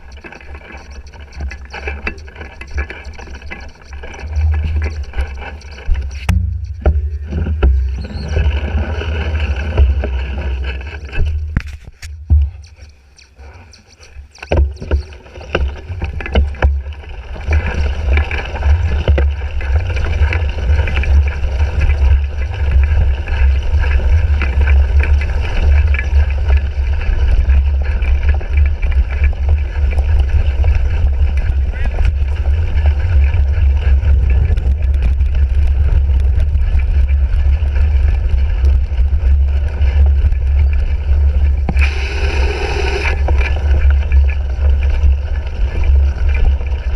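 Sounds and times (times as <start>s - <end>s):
bike knocks and rattles: 0.0s - 41.9s
wind buffeting camera: 0.0s - 46.9s.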